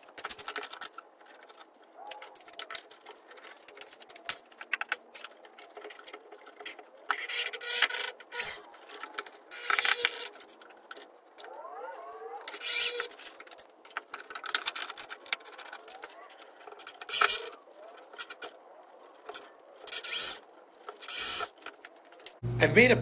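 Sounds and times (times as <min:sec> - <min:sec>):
tools clicking and knocking: 0:00.0 - 0:11.7, 0:12.4 - 0:22.4.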